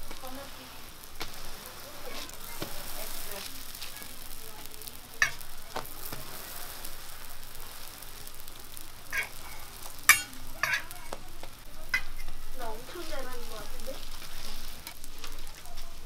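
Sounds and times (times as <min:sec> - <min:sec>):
oil sizzling on a griddle: 0:00.0 - 0:16.0.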